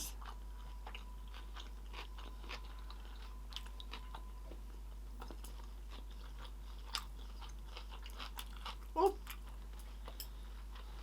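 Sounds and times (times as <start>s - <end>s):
chewing with wet mouth smacks: 0.1s - 11.0s.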